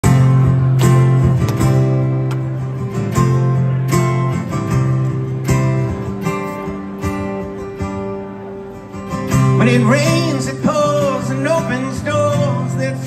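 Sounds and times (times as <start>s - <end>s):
acoustic guitar strumming: 0.0s - 13.0s
bass: 0.0s - 13.0s.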